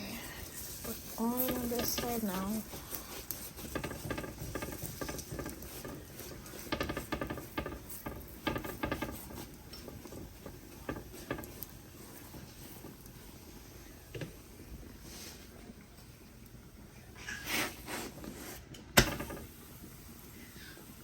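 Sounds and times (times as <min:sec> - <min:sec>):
utensil scraping on griddle: 0:00.0 - 0:15.6, 0:17.2 - 0:21.0.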